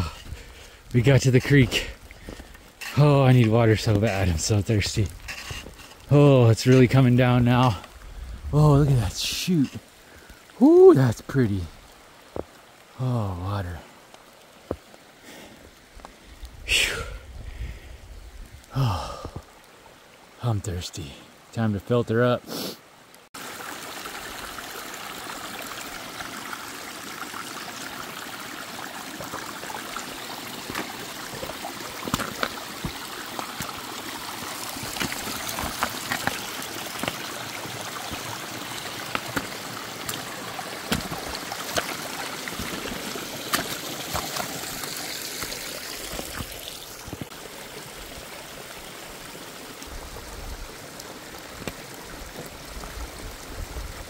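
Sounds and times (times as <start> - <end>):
creek running: 0.0 - 54.0.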